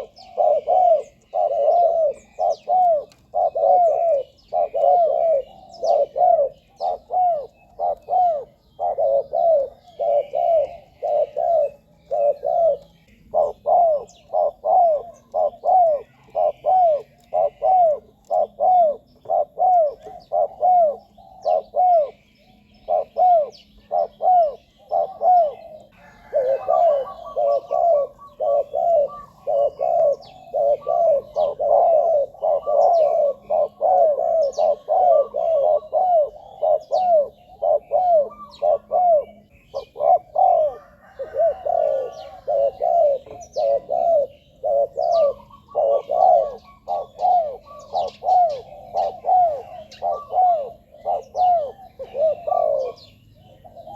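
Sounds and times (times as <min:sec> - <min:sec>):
doves cooing: 0:00.0 - 0:53.9
small birds chirping: 0:00.0 - 0:53.9.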